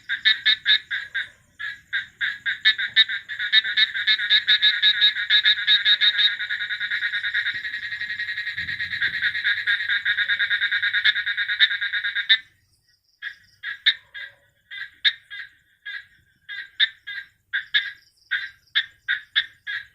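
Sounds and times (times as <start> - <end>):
frog short pulsed calls: 0.0 - 19.9
frog trilling: 0.0 - 19.9.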